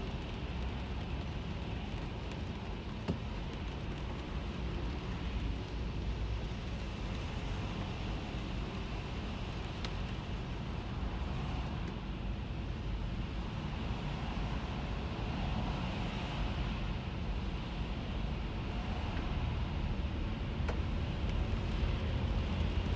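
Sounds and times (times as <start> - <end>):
car road rumble: 0.0 - 22.9
tyres hissing on wet road: 0.1 - 12.2, 12.9 - 22.9.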